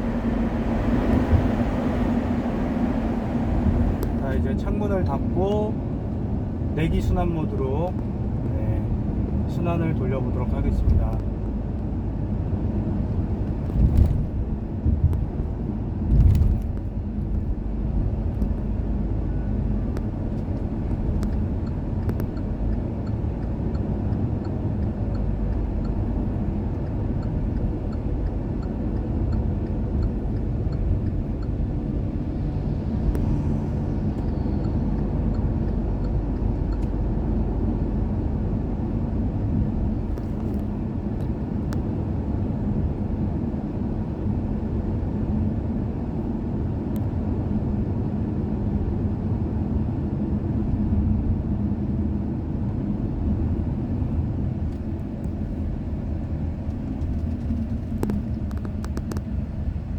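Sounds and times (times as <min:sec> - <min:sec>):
road and engine rumble in car: 0:00.0 - 0:59.9.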